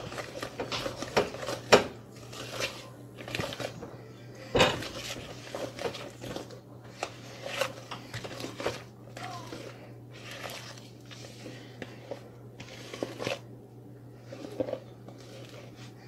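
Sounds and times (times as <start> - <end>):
utensil scraping and clinking bowl: 0.0 - 13.5, 14.2 - 16.0.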